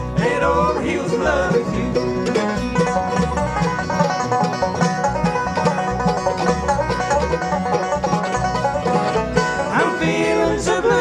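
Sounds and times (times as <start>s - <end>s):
banjo picked notes: 0.0s - 11.0s
bluegrass band playing: 0.0s - 11.0s
upright bass beat: 0.0s - 11.0s.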